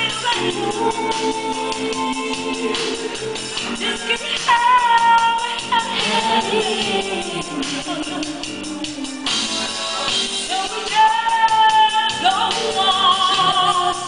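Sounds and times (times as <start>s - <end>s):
keyboard with steady beat: 0.0s - 14.0s
women singing: 0.0s - 14.0s.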